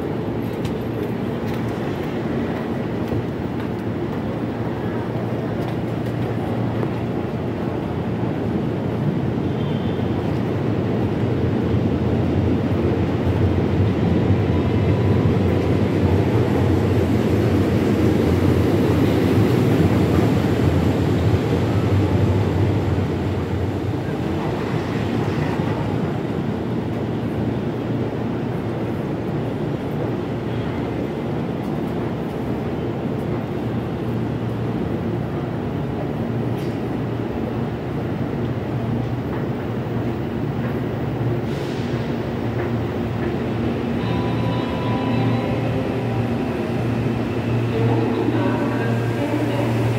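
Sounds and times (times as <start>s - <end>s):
electric train low rumble: 0.0s - 49.9s.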